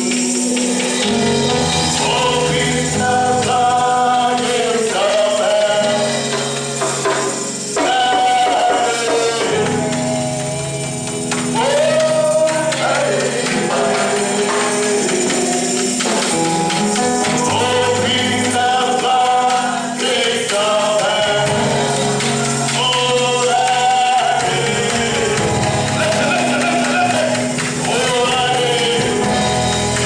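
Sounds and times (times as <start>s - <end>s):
choir singing gospel: 0.0s - 30.0s
tambourine: 0.0s - 30.0s.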